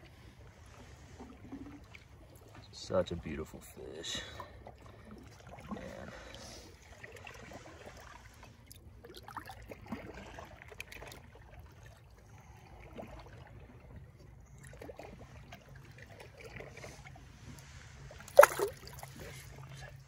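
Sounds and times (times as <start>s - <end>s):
low steady rumble: 0.0s - 20.0s
water trickles and splashes: 0.0s - 20.0s.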